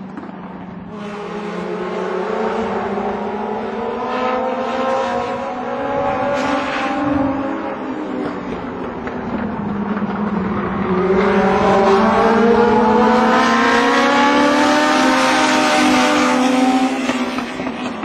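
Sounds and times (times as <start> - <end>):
race car engines at high revs: 0.0 - 18.0.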